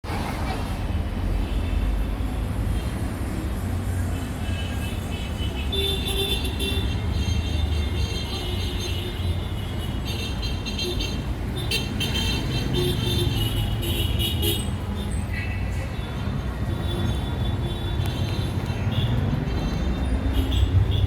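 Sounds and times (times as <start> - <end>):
road traffic rumbling: 0.0 - 21.0.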